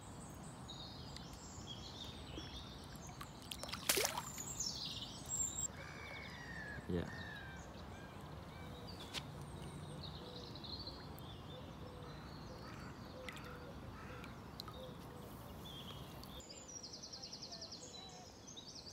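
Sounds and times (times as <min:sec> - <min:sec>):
birds chirping and calling: 0:00.8 - 0:16.8.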